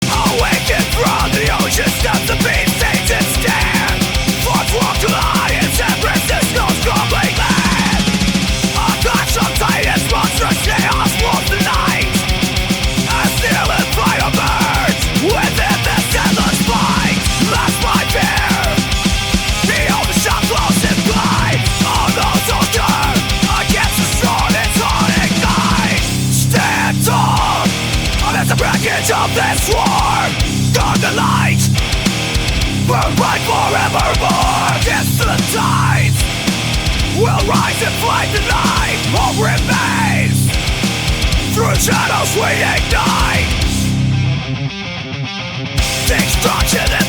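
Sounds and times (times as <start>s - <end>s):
heavy rock instrumental: 0.0s - 47.0s.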